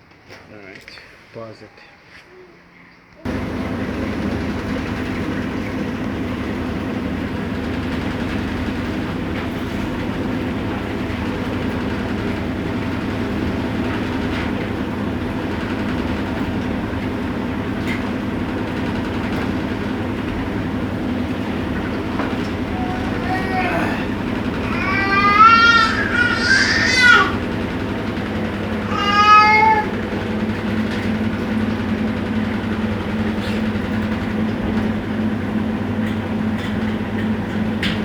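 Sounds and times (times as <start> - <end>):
washing machine running: 3.2 - 38.0.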